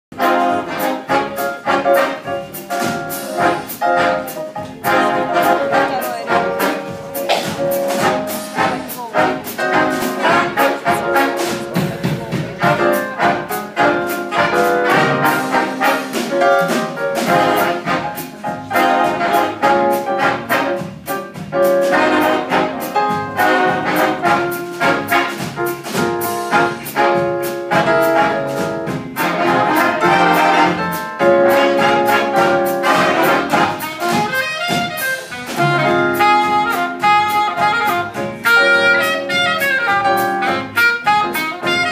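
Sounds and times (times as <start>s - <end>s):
jazz big band playing: 0.1s - 41.9s.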